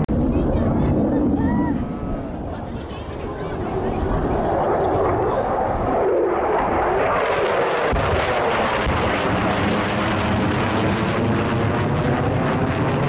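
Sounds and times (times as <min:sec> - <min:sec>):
jet engine roaring overhead: 0:00.0 - 0:13.0.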